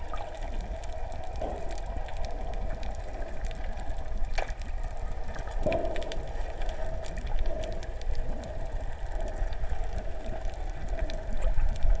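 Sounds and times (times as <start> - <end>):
crackling clicks: 0.0 - 12.0
faint steady hum: 0.0 - 12.0
underwater rumble of moving water: 0.0 - 12.0.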